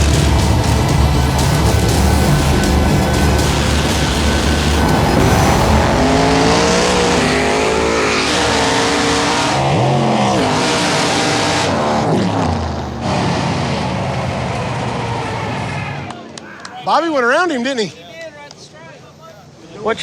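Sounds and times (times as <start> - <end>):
drag car engines racing: 0.0 - 16.4.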